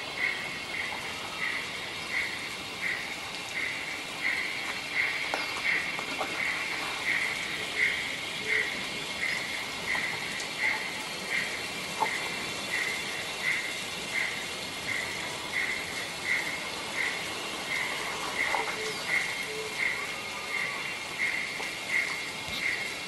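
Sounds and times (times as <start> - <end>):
model steam locomotive chuffing: 0.0 - 23.0
steady hiss: 0.0 - 23.0.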